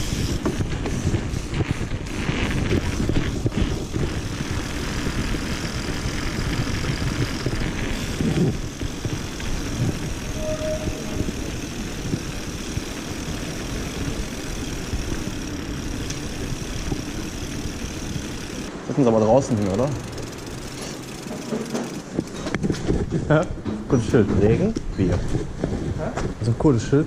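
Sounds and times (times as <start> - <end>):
wind on microphone: 0.0 - 17.1, 22.2 - 26.8
bike tyres rolling on trail: 0.0 - 23.6.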